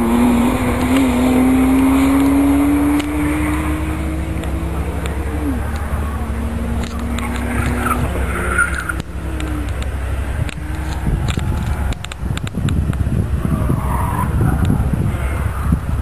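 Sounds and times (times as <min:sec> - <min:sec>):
rally car engine: 0:00.0 - 0:16.0.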